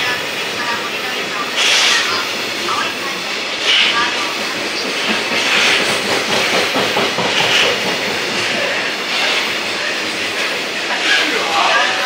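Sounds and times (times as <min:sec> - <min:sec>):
train wheels clacking: 0:01.5 - 0:12.0.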